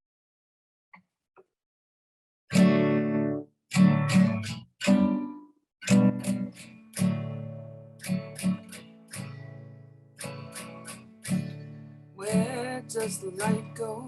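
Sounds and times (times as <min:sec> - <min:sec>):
acoustic guitar strumming chords: 0:02.5 - 0:14.0.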